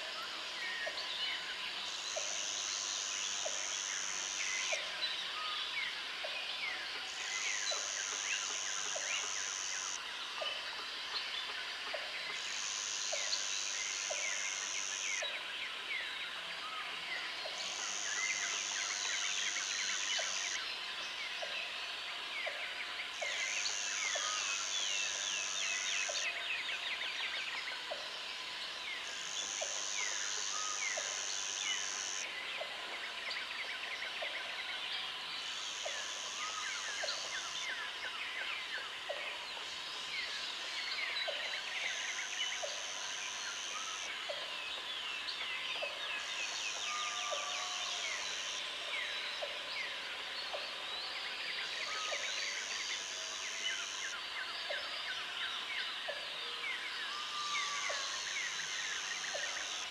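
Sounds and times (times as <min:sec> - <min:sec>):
thin insect drone: 0:00.0 - 0:59.9.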